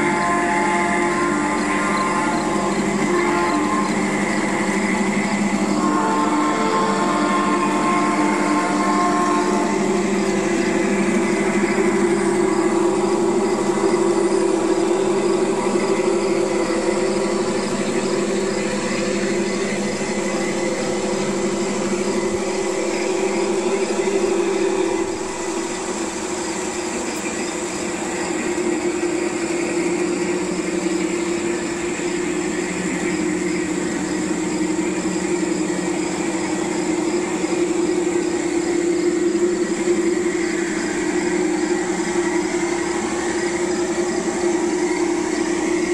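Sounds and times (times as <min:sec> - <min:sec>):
model train running: 0:00.0 - 0:45.9.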